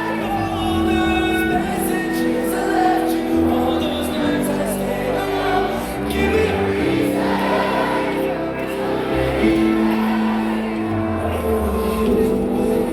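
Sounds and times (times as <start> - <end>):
person singing: 0.0 - 12.9.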